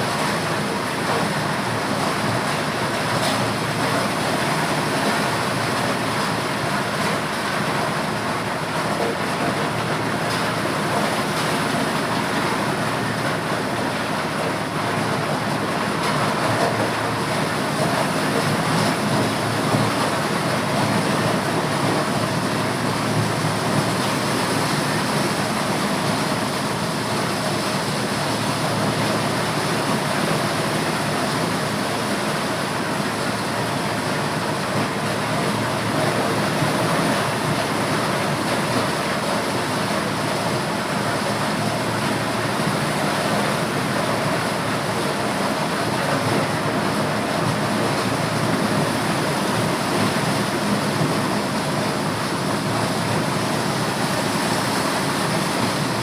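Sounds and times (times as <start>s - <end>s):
motorised corn sheller running: 0.0s - 56.0s.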